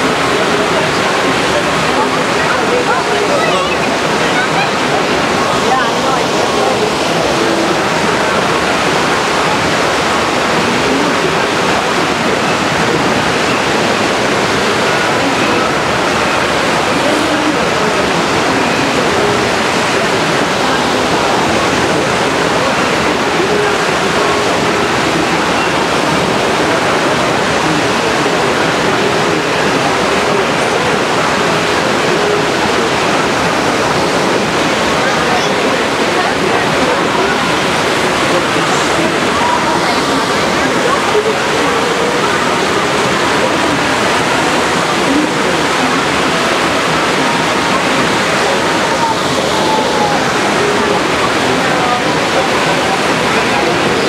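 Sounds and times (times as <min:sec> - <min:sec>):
faint voices: 0:00.0 - 0:54.0
water rushing through rapids: 0:00.0 - 0:54.0.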